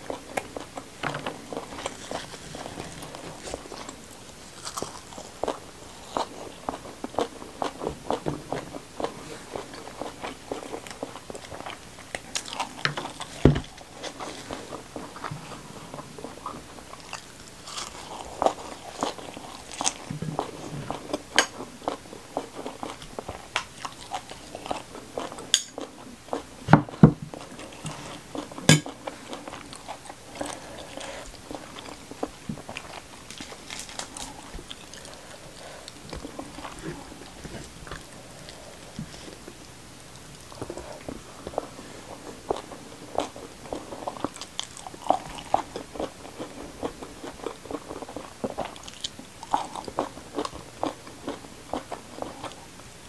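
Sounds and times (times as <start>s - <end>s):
chewing with crisp crunches: 0.0s - 53.0s.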